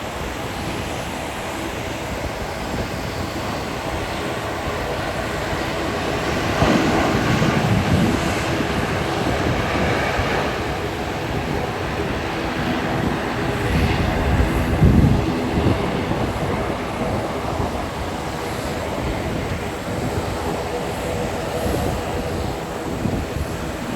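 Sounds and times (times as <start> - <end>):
aircraft engine noise: 0.0 - 23.9
wind buffeting microphone: 0.0 - 23.9.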